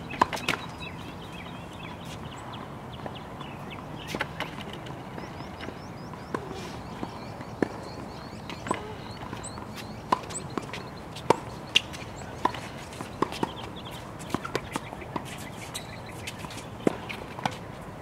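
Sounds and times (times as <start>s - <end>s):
tennis ball bouncing: 0.1s - 0.9s, 3.0s - 17.6s.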